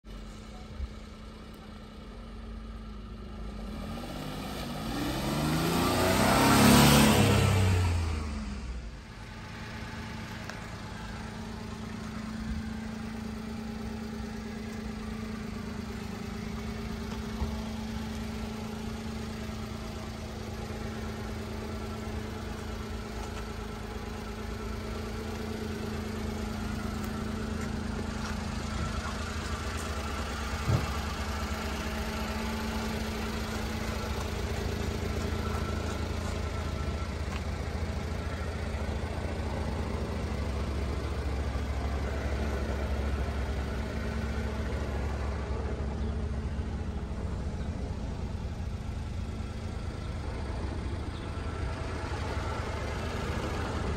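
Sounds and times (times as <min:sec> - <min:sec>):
small truck engine idling: 0:00.0 - 0:03.7, 0:07.6 - 0:53.9.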